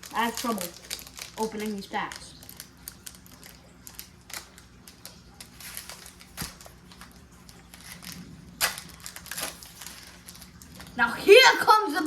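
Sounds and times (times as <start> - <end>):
cards rustling and clicking: 0.0 - 11.1
foil pack crinkling: 0.0 - 12.0.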